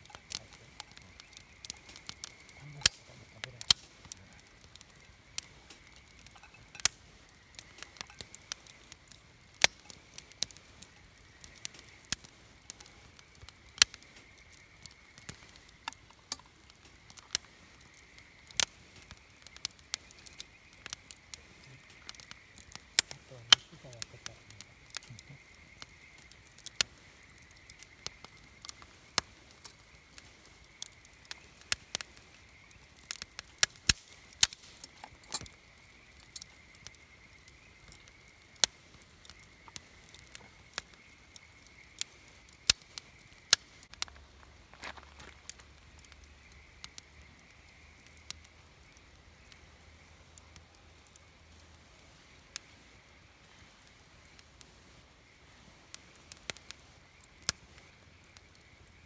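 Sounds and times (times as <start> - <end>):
campfire crackling: 0.0 - 59.0
fire popping sharply: 0.0 - 59.0.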